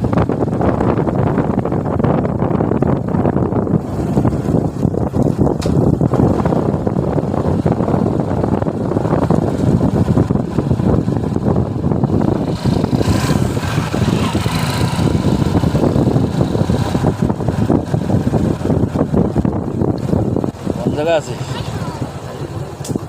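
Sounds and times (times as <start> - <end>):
motorcycle engine and road rumble: 0.0 - 23.0
wind buffeting microphone: 0.0 - 23.0.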